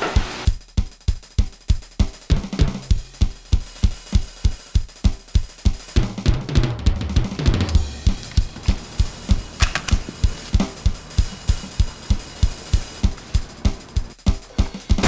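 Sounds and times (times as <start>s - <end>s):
drum kit fast beat: 0.0s - 15.0s.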